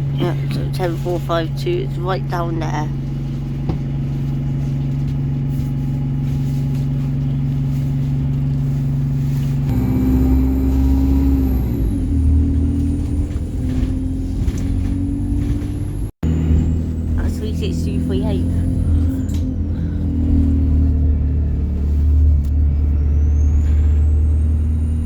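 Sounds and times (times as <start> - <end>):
bus engine: 0.0 - 25.0.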